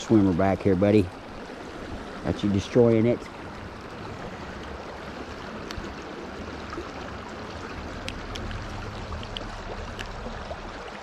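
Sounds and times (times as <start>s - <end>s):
river water running: 0.0s - 11.0s.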